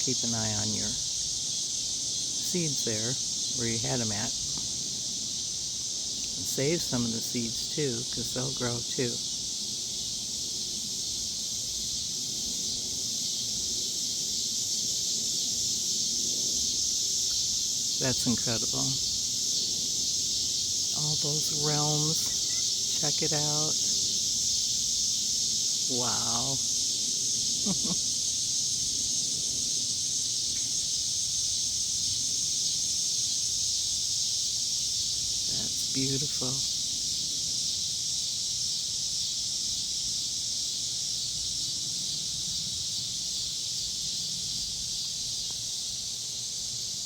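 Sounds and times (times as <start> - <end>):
insects trilling: 0.0 - 47.0.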